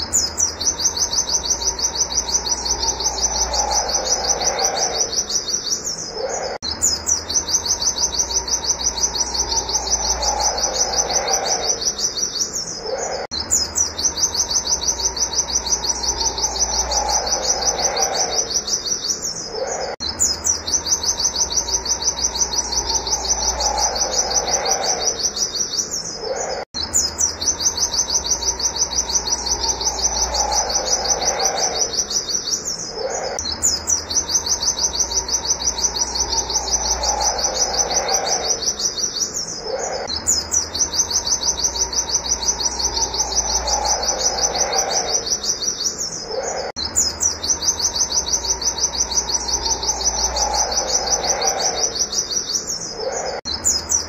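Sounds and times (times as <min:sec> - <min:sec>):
bird singing high sharp notes: 0:00.0 - 0:54.0.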